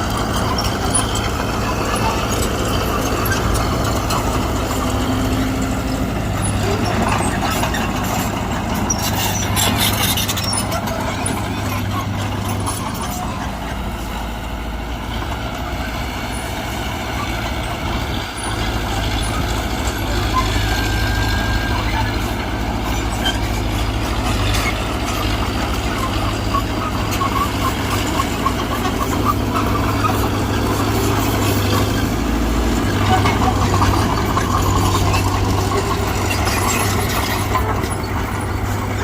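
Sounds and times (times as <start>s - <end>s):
heavy machinery engine drone: 0.0s - 39.0s.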